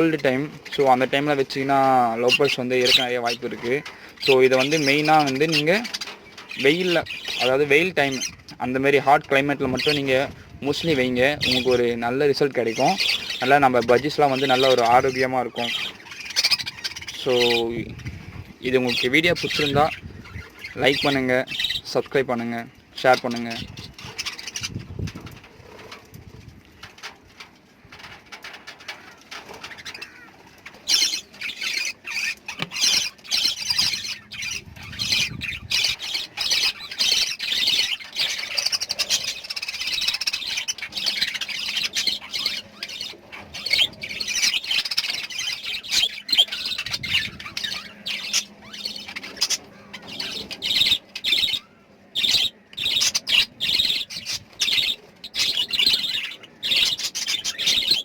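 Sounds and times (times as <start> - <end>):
parrots chirping and squawking: 0.0 - 58.0.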